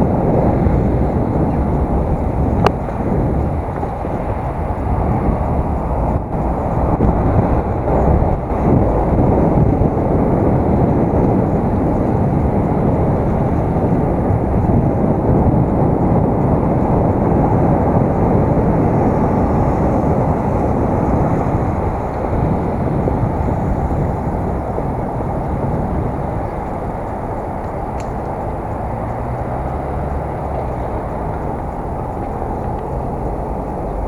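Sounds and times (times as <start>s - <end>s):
bicycle tyres on road: 0.0s - 34.0s
wind buffeting microphone: 0.0s - 34.0s.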